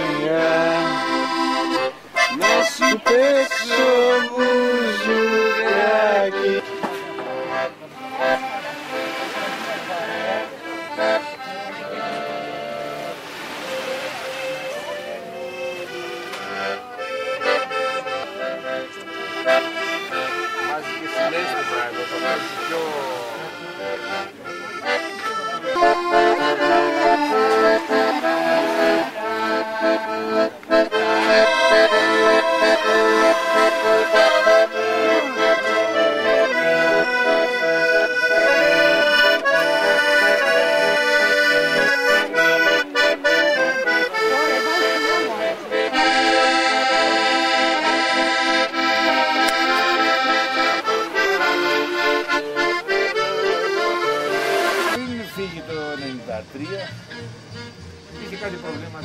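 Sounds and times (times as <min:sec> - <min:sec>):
accordion playing a tune: 0:00.0 - 0:59.0.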